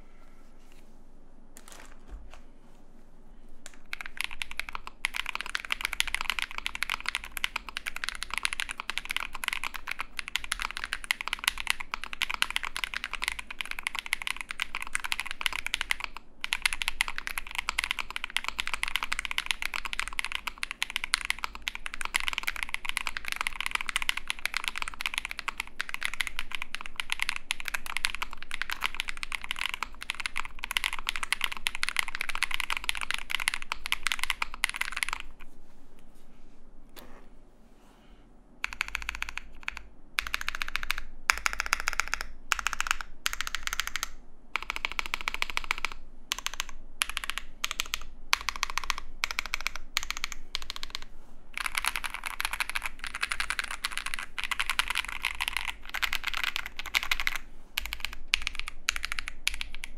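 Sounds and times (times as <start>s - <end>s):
fast typing on mechanical keyboard: 3.8s - 35.4s, 38.6s - 59.9s.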